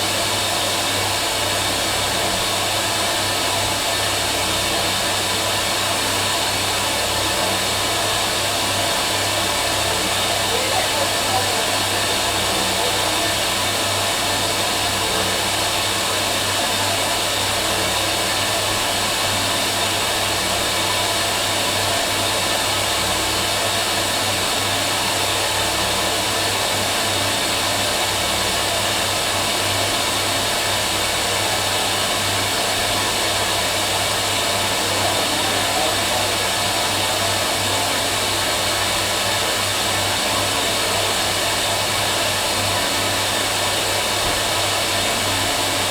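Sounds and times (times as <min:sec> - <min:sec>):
washing machine whirring: 0:00.0 - 0:45.9.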